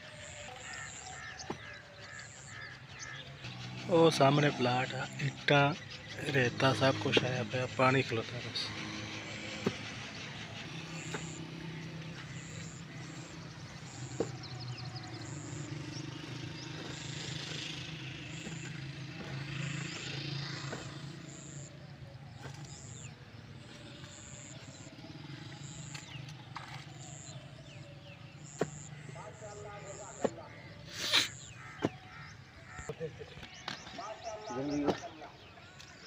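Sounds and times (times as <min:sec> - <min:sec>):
low engine-like hum: 0:00.1 - 0:36.0.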